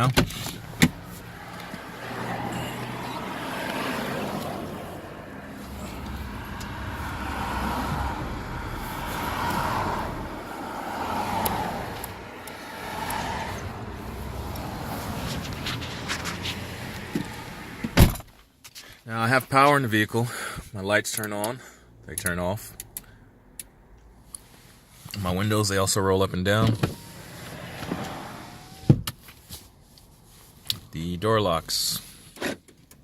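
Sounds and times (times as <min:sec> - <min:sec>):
road traffic passing: 0:00.3 - 0:18.1, 0:21.6 - 0:31.0.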